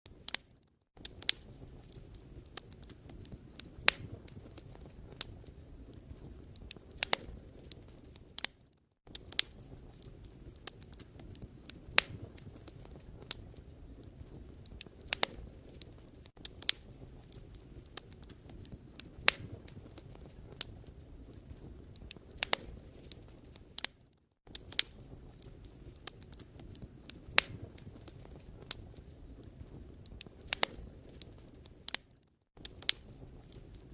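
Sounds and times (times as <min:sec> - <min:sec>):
fire crackling and popping: 0:00.1 - 0:33.9
fire flames hissing: 0:00.1 - 0:33.9.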